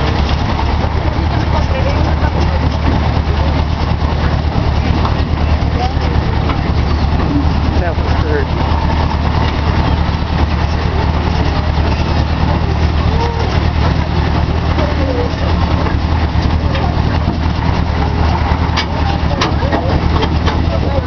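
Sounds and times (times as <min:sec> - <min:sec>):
faint voices: 0:00.0 - 0:21.0
low engine drone: 0:00.0 - 0:21.0.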